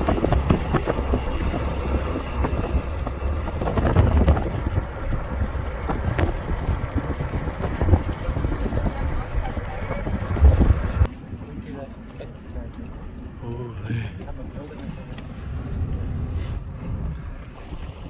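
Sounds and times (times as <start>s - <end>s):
wind buffeting microphone: 0.0s - 13.4s, 14.2s - 18.0s
road noise: 0.0s - 18.0s.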